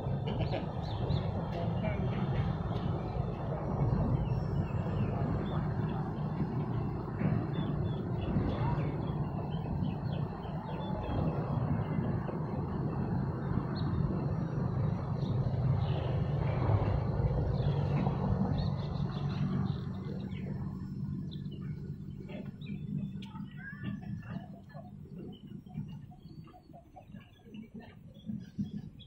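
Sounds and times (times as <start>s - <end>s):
wind rumble on microphone: 0.0s - 29.0s
small birds chirping: 0.1s - 14.4s, 17.4s - 29.0s.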